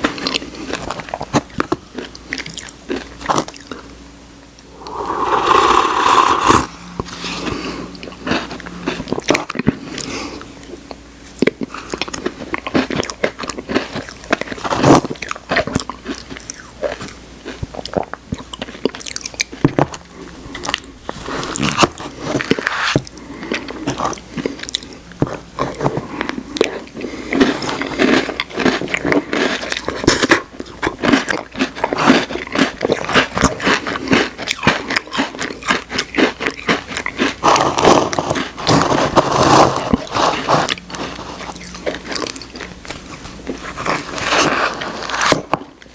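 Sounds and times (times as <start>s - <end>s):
wet chewing and smacking: 0.0s - 3.9s, 7.4s - 45.9s.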